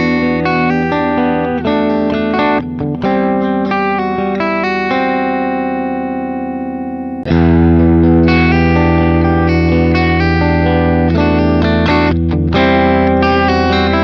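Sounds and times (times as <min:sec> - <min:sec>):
electric guitar through amp: 0:00.0 - 0:14.0.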